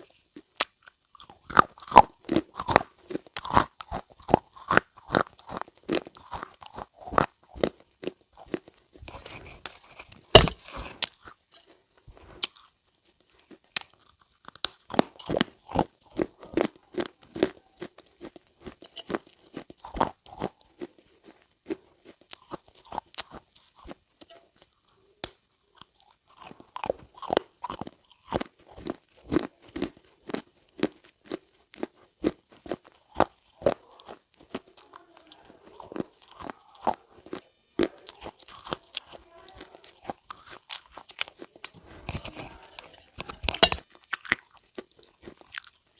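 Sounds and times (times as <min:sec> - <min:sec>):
crunchy food being chewed: 0:00.0 - 0:45.9.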